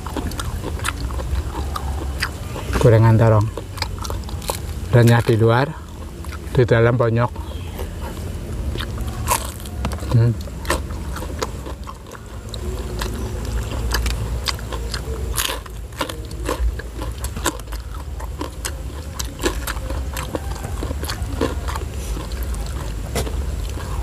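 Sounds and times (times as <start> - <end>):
people chewing and smacking lips: 0.0 - 24.0.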